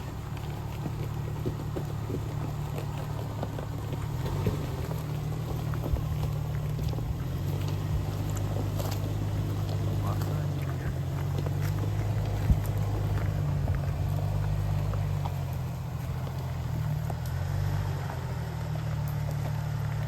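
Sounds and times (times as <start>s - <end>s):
engine running at low revs: 0.0s - 20.0s
tyres crunching on rock and gravel: 0.0s - 20.0s.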